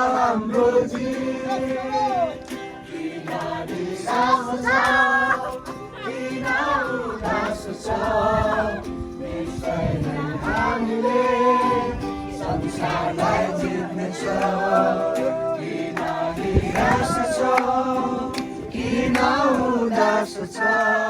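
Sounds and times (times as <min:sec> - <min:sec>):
group singing a song: 0:00.0 - 0:21.0
music: 0:00.0 - 0:21.0.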